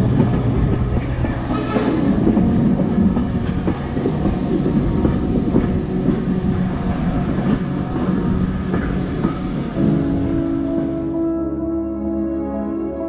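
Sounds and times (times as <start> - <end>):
wheels clattering over rails: 0.0 - 11.2
train rolling noise: 0.0 - 11.6.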